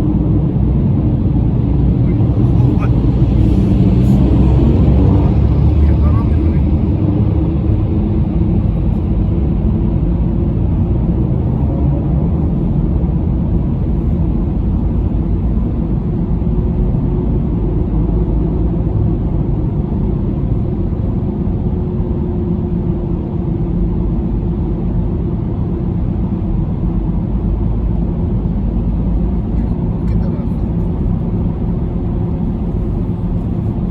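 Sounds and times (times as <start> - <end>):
car engine and tyre road noise: 0.0 - 33.9.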